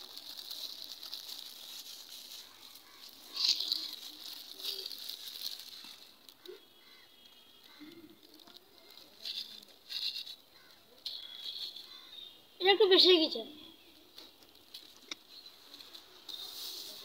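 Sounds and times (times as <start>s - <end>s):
plastic packet crinkling: 0.0s - 12.3s, 14.1s - 17.0s.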